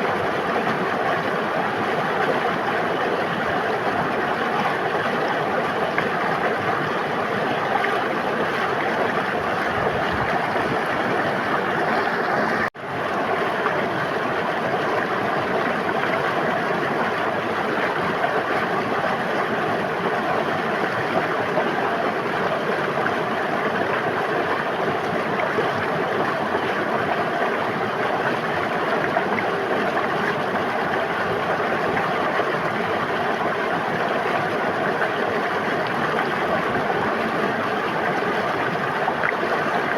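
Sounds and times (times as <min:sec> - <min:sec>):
river rushing and burbling: 0:00.0 - 0:39.9.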